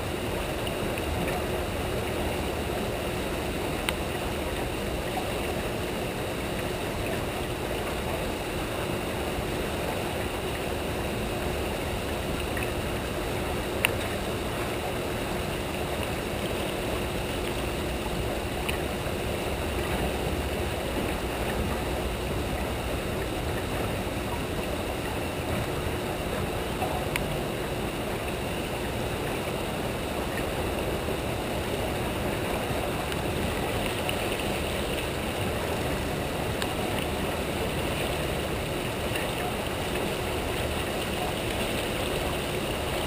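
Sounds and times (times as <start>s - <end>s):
faint steady hum: 0.0s - 43.0s
water rushing and churning: 0.0s - 43.0s.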